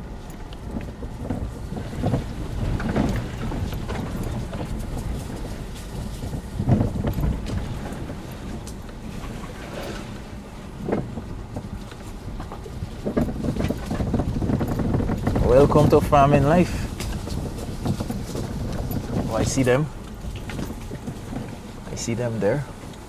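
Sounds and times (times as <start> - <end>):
thuds over ruts: 0.0 - 23.0
vehicle driving over dirt track: 0.0 - 23.0.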